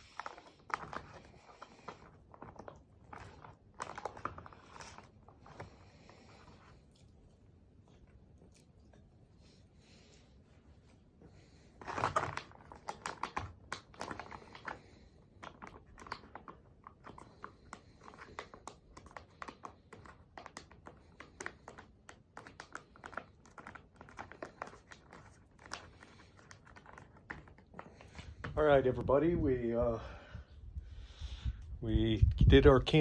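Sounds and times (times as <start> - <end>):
crinkling and rustling: 0.0 - 29.6.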